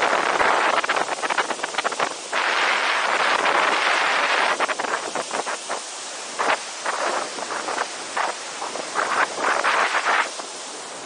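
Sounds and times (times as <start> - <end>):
whitewater rushing over rocks: 0.0 - 11.0
wind buffeting microphone: 0.0 - 11.0.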